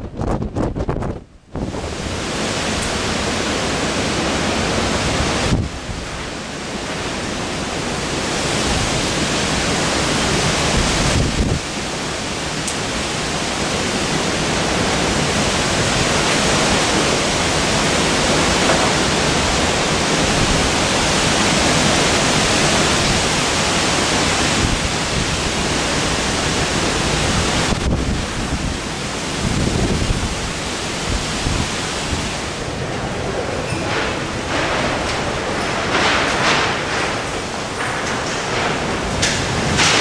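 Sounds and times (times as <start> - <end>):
driving rain: 0.0 - 40.0
storm wind through trees: 0.0 - 40.0.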